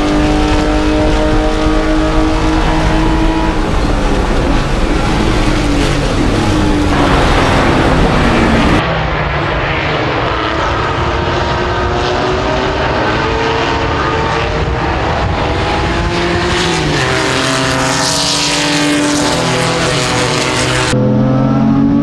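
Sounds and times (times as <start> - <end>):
race car engine running hard: 0.0 - 21.0.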